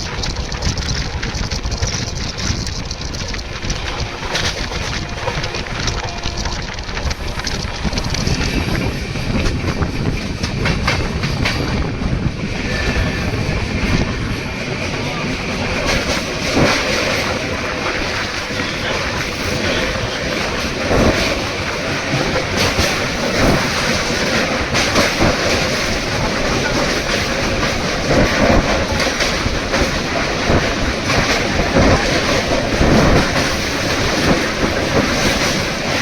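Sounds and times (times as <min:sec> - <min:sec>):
train rumbling: 0:00.0 - 0:36.0
wheels knocking over rail joints: 0:00.0 - 0:36.0.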